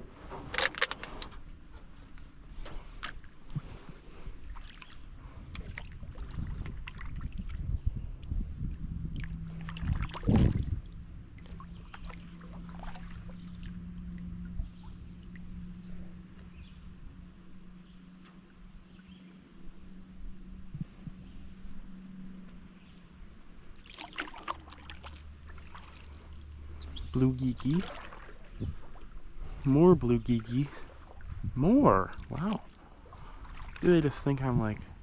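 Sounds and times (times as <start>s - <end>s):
paddle moving in water: 0.0s - 7.8s, 9.1s - 19.0s, 20.8s - 35.0s
steady low hum: 0.0s - 35.0s.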